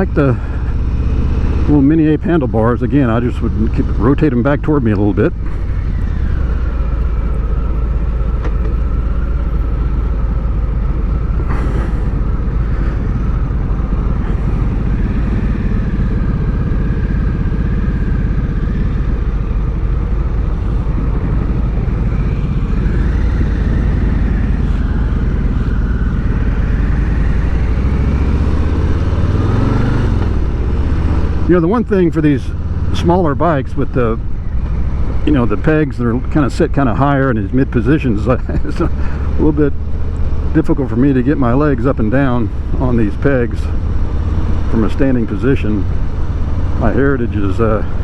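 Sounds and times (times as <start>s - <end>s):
motorcycle engine cruising: 0.0s - 48.0s.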